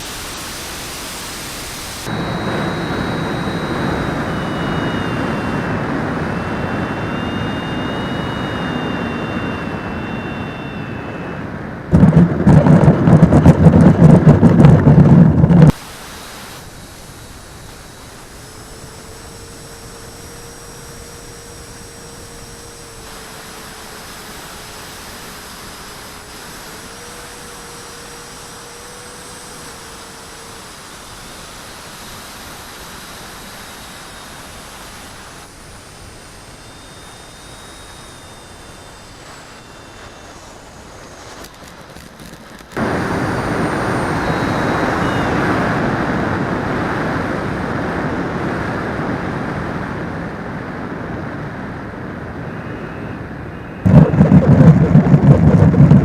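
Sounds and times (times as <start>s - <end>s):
model jet rushing noise: 0.0s - 48.1s, 51.4s - 56.0s
faint high whines: 0.0s - 56.0s.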